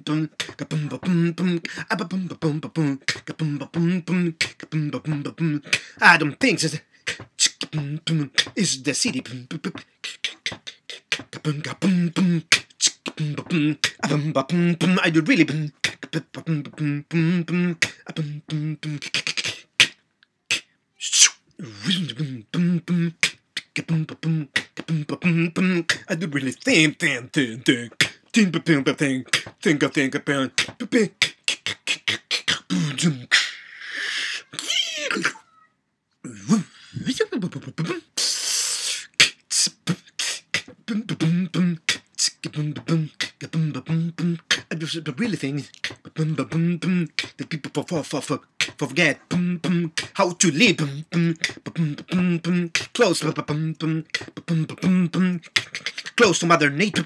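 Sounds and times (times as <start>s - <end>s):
mouth clicks: 0.0s - 26.2s, 27.7s - 35.6s, 36.2s - 57.0s
man beatboxing: 0.0s - 35.4s, 36.3s - 57.0s.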